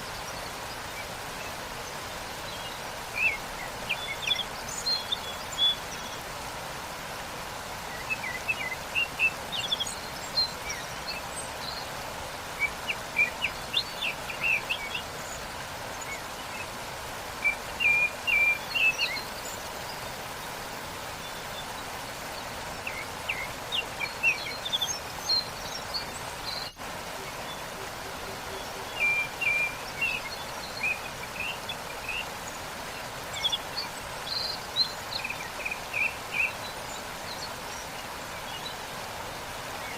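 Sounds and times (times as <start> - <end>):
waterfall rushing: 0.0 - 39.9
small birds chirping: 7.8 - 39.9.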